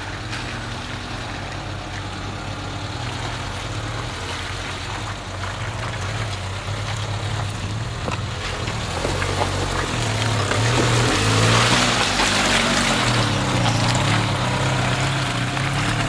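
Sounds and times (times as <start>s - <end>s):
off-road vehicle engine at low revs: 0.0s - 16.0s.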